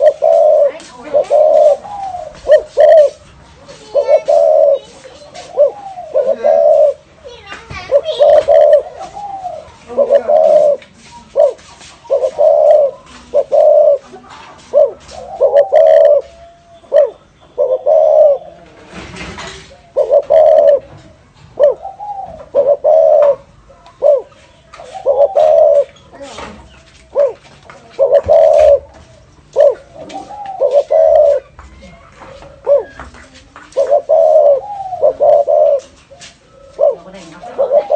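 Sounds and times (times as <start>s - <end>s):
dove cooing: 0.0s - 7.1s, 7.8s - 37.9s.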